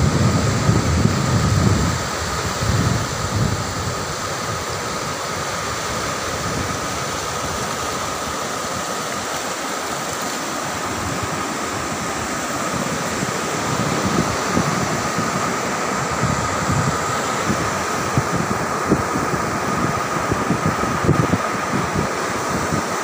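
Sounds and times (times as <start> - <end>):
wind buffeting the microphone: 0.0 - 9.3, 10.0 - 23.0
surf breaking on a beach: 0.0 - 23.0.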